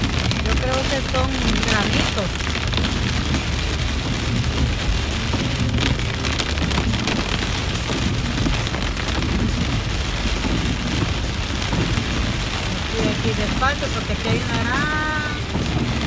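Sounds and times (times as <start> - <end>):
low road rumble: 0.0 - 16.0
rain pattering on windshield: 0.0 - 16.0.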